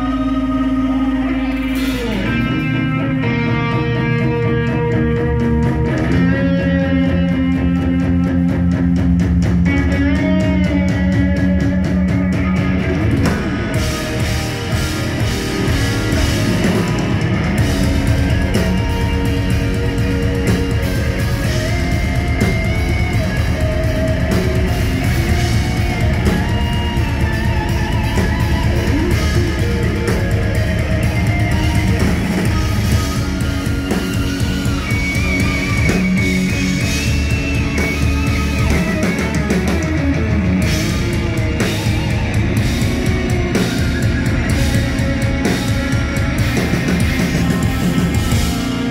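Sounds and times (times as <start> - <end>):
lead guitar sliding melody: 0.0 - 8.9, 9.6 - 48.9
bass and drum backing: 0.0 - 48.9.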